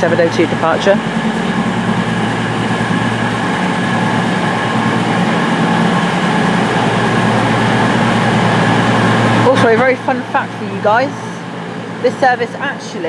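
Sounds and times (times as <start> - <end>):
train diesel engines idling: 0.0 - 13.0.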